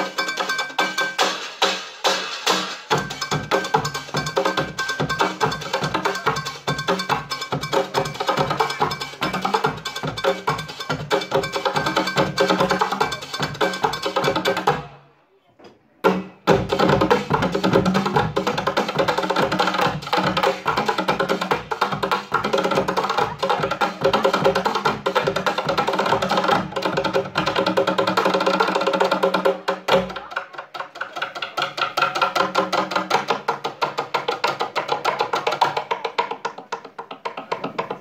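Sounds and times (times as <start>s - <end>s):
bucket drumming: 0.0s - 15.0s, 16.0s - 38.0s.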